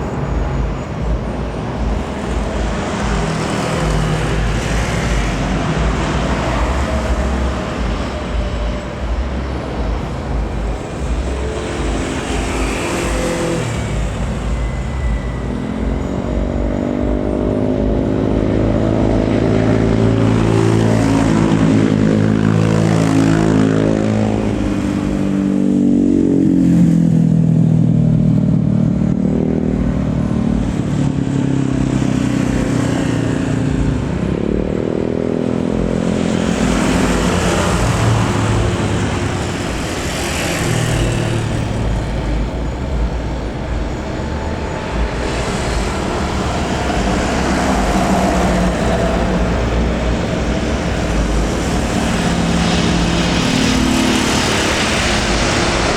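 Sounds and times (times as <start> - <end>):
airliner engines roaring: 0.0 - 55.9.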